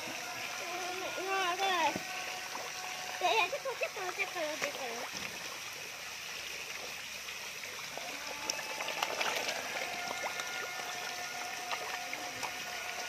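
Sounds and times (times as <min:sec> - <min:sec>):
fish thrashing and splashing water: 0:00.0 - 0:13.0.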